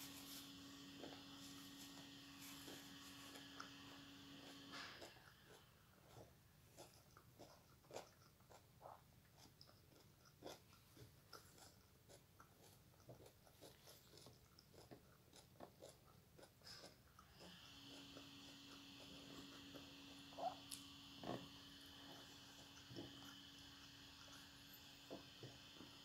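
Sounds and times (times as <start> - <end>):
soft chewing: 0.0 - 26.0.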